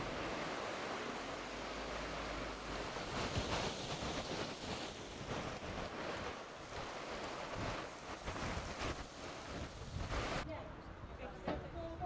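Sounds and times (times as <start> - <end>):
floodwater rushing: 0.0 - 10.4
wind buffeting microphone: 0.0 - 12.0.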